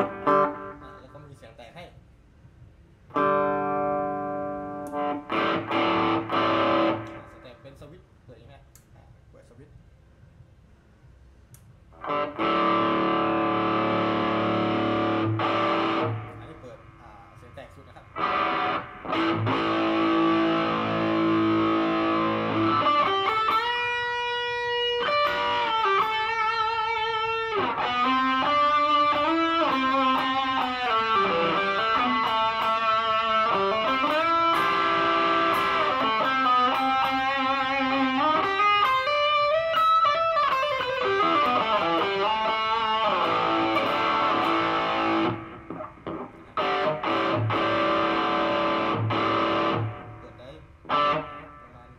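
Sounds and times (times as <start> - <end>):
overdriven electric guitar: 0.0 - 1.0, 3.1 - 7.4, 12.0 - 16.5, 18.1 - 51.7.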